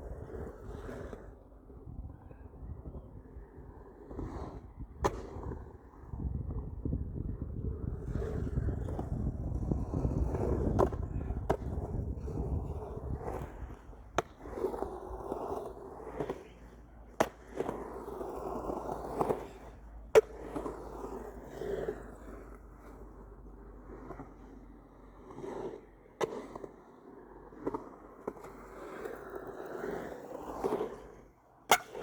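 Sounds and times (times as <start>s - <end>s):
skateboard scraping: 0.0s - 32.0s
skateboard wheels rumbling: 0.0s - 32.0s
skateboard clacks: 3.2s - 6.8s, 7.4s - 32.0s.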